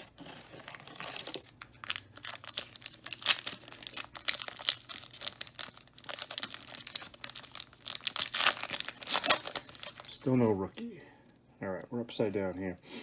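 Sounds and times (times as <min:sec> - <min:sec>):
wrapper tearing and crinkling: 0:00.0 - 0:10.4.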